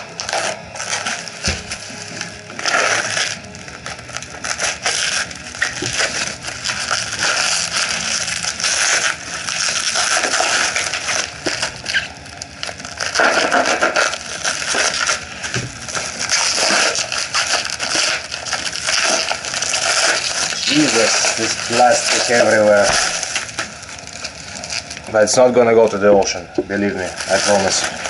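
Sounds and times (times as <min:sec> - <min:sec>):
plastic film crinkling: 0:00.0 - 0:28.0.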